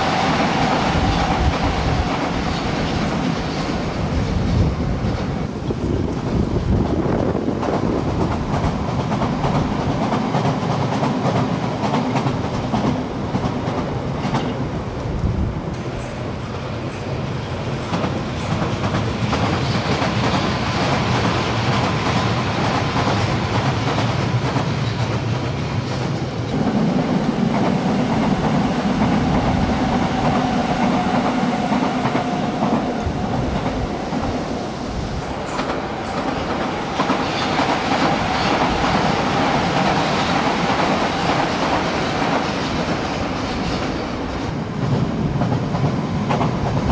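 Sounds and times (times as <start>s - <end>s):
train rail rumble: 0.0s - 46.9s.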